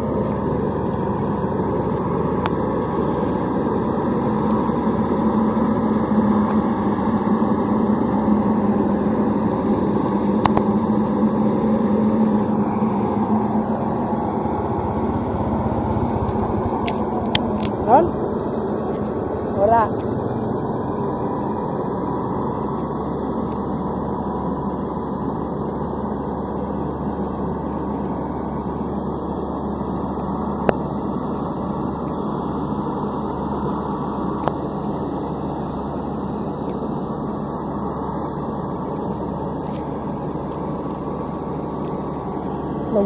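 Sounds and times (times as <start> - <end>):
diesel engine running under load: 0.0 - 43.0.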